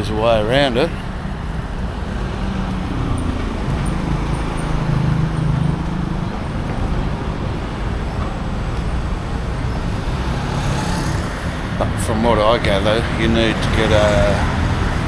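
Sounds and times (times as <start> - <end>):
road noise: 0.0 - 15.0
vehicle engine passing: 0.0 - 15.0.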